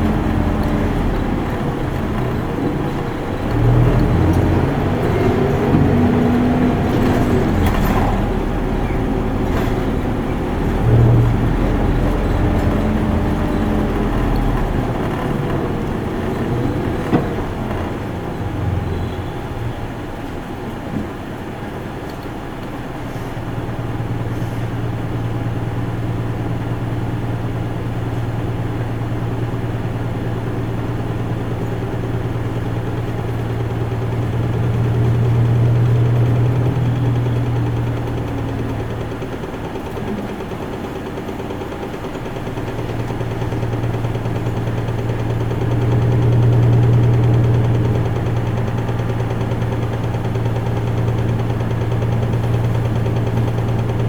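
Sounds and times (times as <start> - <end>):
bus diesel engine droning: 0.0 - 54.0.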